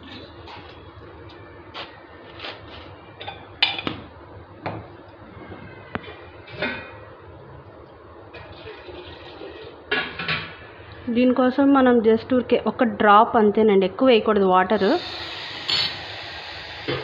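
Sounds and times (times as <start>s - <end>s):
low background noise: 0.0s - 16.1s.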